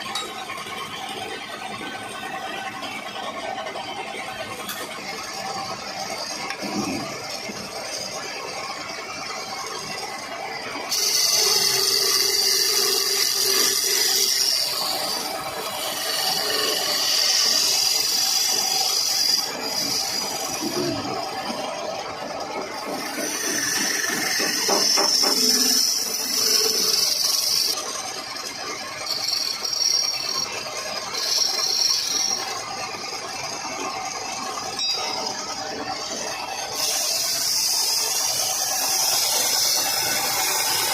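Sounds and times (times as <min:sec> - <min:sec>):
chisel scraping spinning wood: 0:04.6 - 0:40.9
lathe motor hum: 0:05.3 - 0:40.9.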